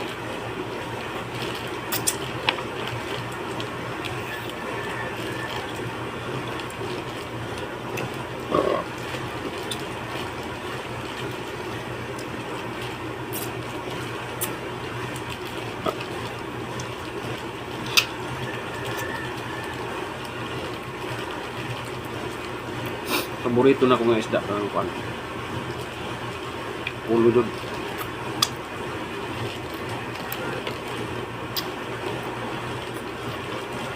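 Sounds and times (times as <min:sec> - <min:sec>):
chewing and slurping soup: 0:00.7 - 0:23.4, 0:26.8 - 0:33.6.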